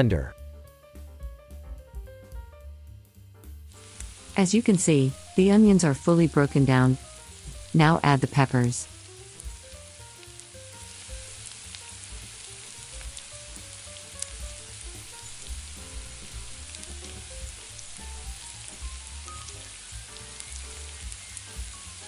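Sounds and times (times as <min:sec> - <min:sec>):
vegetables sizzling in a pan: 0:03.7 - 0:22.0.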